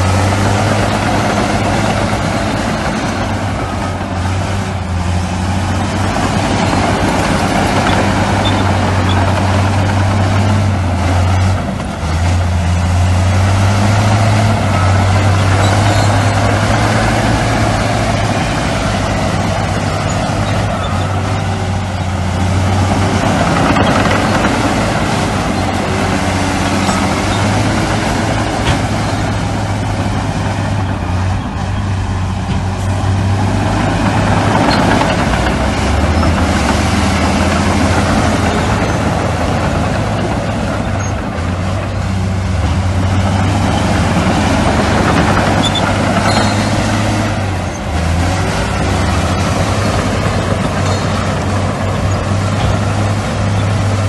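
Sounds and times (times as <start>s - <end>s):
diesel machinery engine drone: 0.0s - 54.0s
rumble of work: 0.0s - 54.0s.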